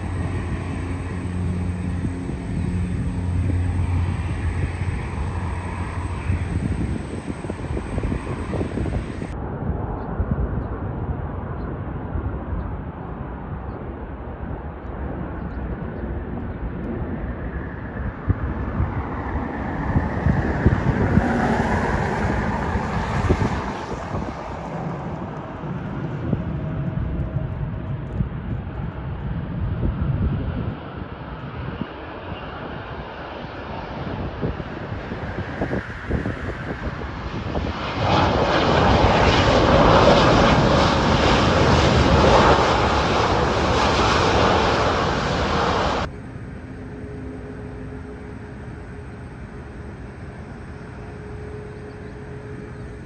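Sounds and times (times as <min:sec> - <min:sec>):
jet engine whine: 0:00.0 - 0:53.0
jet engines rumbling: 0:00.0 - 0:53.0.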